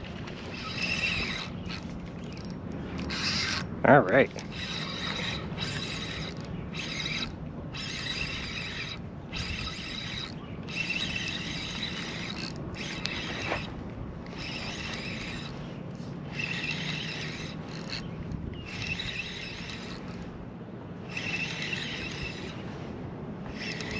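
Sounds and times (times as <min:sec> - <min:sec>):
fishing reel cranking: 0:00.0 - 0:15.6, 0:16.2 - 0:20.3, 0:21.1 - 0:22.7, 0:23.5 - 0:23.9.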